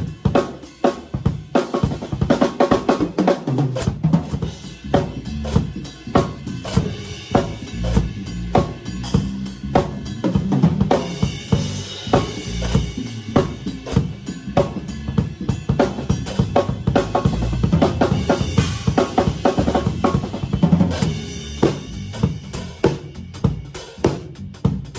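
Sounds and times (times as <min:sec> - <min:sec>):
cymbal crashes: 0:03.8 - 0:23.8
hi-hat: 0:03.8 - 0:24.9.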